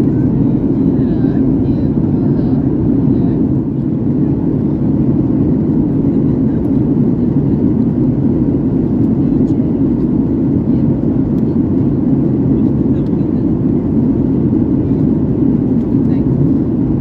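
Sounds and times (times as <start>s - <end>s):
airplane cabin drone: 0.0s - 17.0s.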